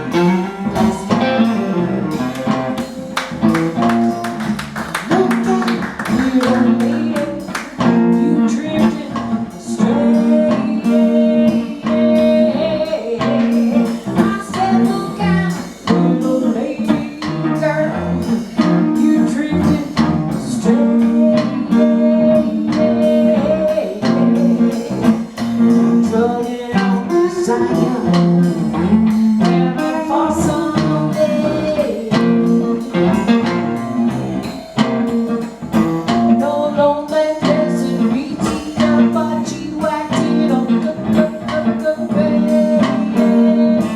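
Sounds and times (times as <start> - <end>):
live blues guitar music: 0.0 - 43.9.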